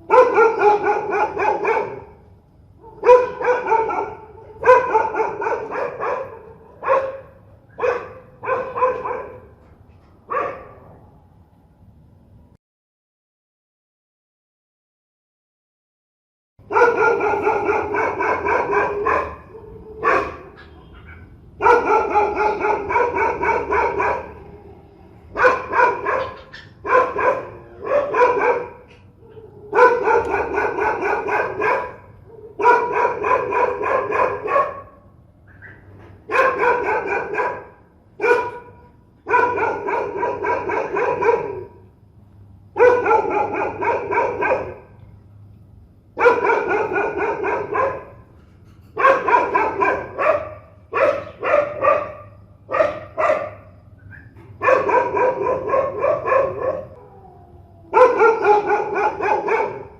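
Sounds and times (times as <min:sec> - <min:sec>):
dog barking fiercely: 0:00.0 - 0:09.6, 0:10.3 - 0:11.0, 0:16.6 - 0:24.6, 0:25.2 - 0:41.9, 0:42.7 - 0:45.0, 0:46.1 - 0:48.4, 0:49.0 - 0:57.1, 0:57.9 - 0:59.9.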